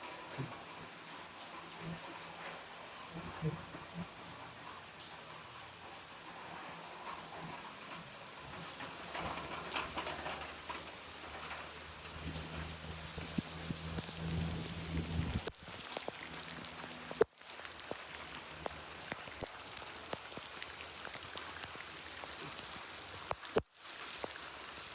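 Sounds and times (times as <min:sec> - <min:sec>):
rain pattering on surfaces: 0:00.0 - 0:24.9.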